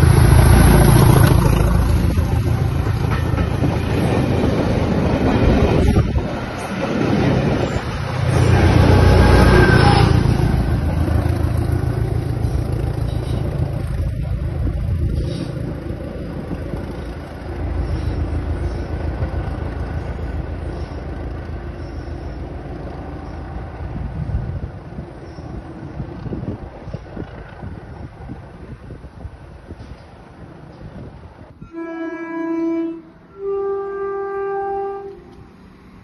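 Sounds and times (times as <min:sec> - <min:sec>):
train passing with heavy rumble: 0:00.0 - 0:36.0.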